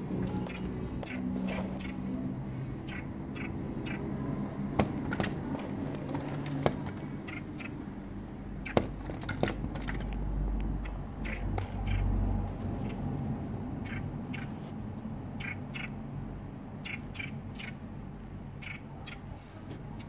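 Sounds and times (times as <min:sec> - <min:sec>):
small bird chirping: 0:00.0 - 0:20.0.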